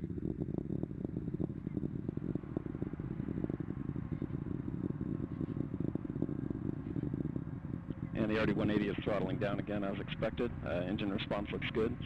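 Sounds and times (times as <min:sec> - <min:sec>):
distant rocket roar: 0:00.0 - 0:12.0.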